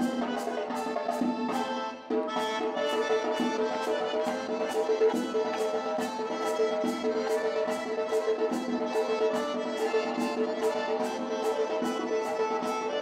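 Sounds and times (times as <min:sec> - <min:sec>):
accordion-led folk dance music: 0:00.0 - 0:13.0
sharp steady beat: 0:00.0 - 0:13.0.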